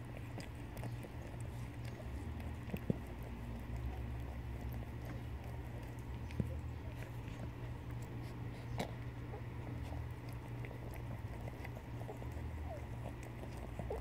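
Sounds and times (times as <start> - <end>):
cat licking kitten: 0.0 - 14.0
steady low hum: 0.0 - 14.0.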